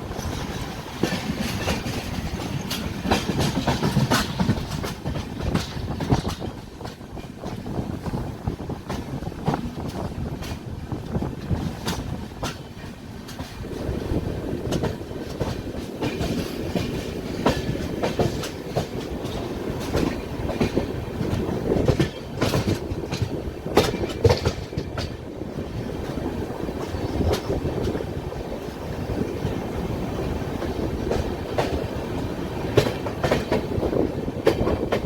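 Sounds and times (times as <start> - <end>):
train coaches rumbling on track: 0.0 - 35.0
wheels clacking over rail joints: 0.0 - 35.0.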